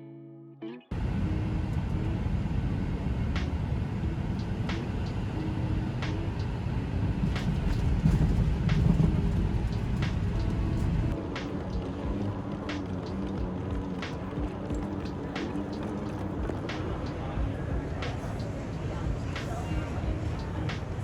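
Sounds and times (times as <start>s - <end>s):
airliner cabin rumble: 0.9s - 21.0s.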